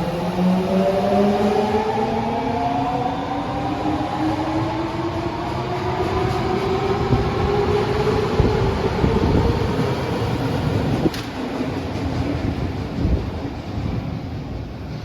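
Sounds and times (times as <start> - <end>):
subway train motors whining: 0.0 - 15.0.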